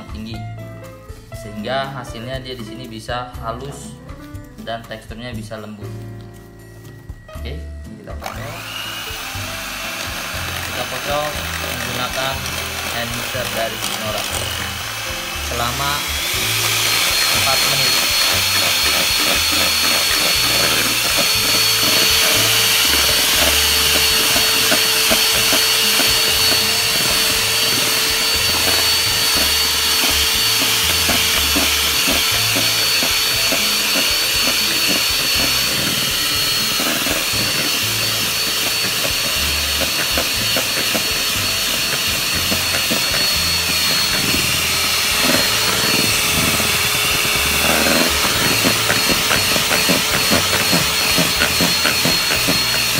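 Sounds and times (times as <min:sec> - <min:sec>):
electric hand mixer whisking batter: 0:08.1 - 0:52.9.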